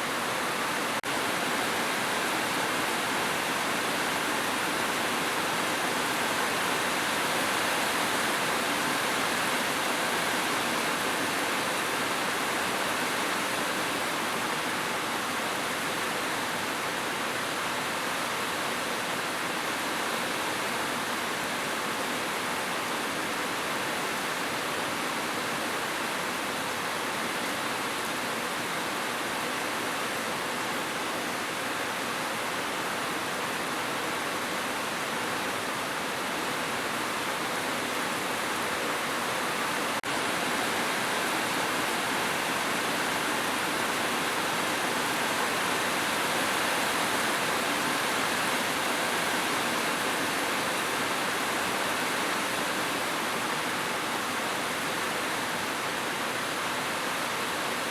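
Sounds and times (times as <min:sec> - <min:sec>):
heavy rain on a roof: 0:00.0 - 0:57.9.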